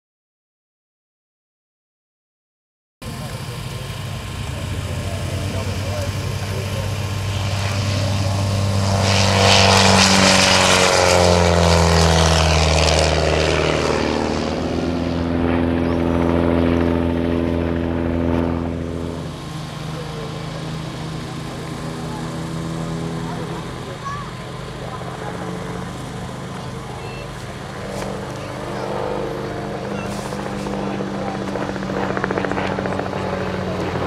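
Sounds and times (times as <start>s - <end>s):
biplane engine passing: 3.0s - 34.0s.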